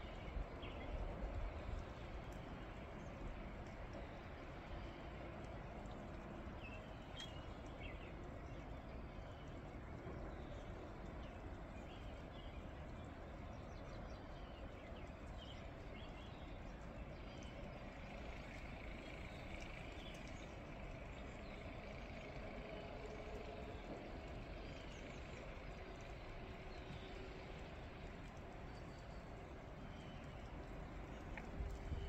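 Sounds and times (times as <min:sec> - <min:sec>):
snowstorm rumble and hiss: 0:00.0 - 0:32.0.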